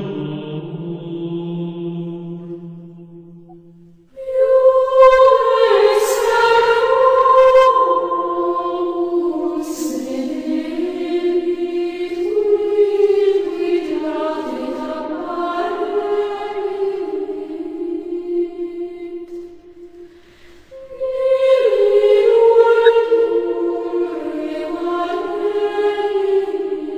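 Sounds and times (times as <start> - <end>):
slow chant-like singing: 0.0 - 26.9.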